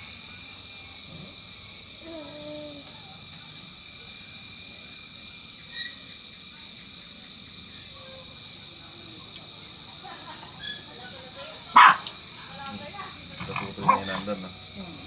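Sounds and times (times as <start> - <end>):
pulsing insect chorus: 0.0 - 15.0.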